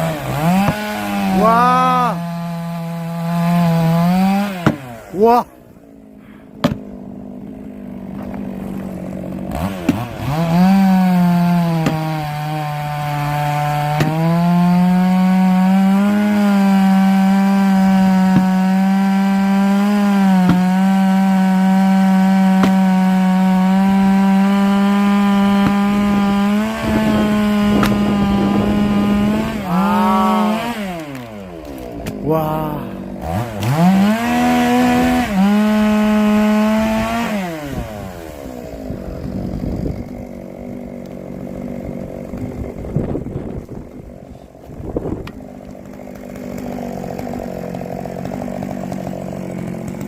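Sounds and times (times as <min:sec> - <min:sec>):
chainsaw cutting log: 0:00.0 - 0:50.0.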